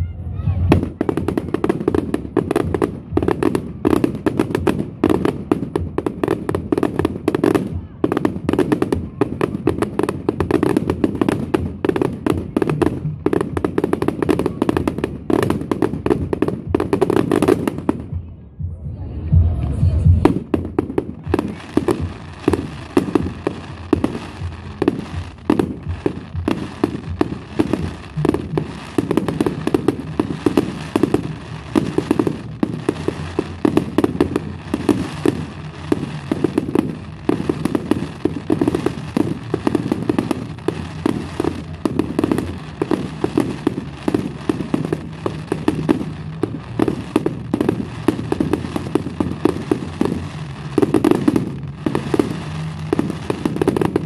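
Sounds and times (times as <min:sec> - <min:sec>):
fireworks banging and cracking: 0:00.1 - 0:18.4, 0:19.4 - 0:54.0.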